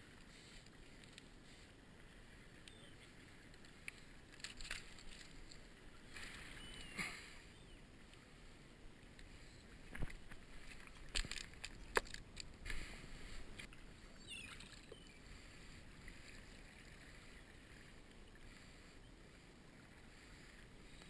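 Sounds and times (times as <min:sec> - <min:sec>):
seawater lapping over stones: 0:00.2 - 0:09.2, 0:09.8 - 0:21.0.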